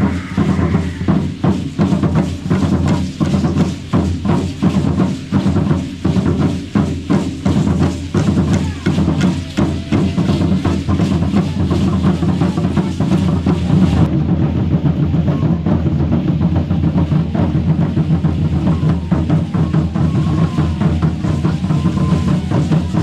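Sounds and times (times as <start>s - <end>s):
drums beating steady rhythm: 0.0s - 23.0s.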